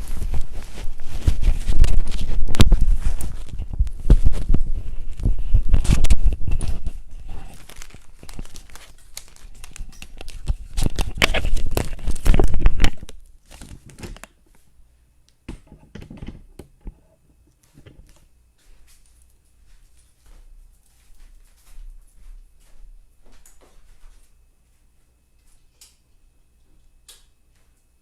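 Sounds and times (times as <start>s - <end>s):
rustling and handling noise: 0.0s - 28.0s.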